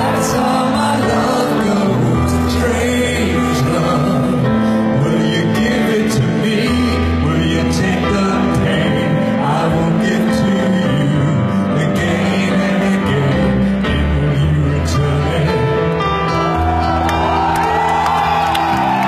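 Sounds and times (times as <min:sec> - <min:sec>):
man singing through pa: 0:00.0 - 0:16.0.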